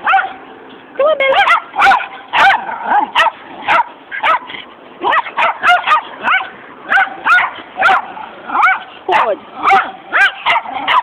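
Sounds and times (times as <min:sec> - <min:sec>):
dogs barking: 0:00.0 - 0:00.5, 0:01.2 - 0:11.0.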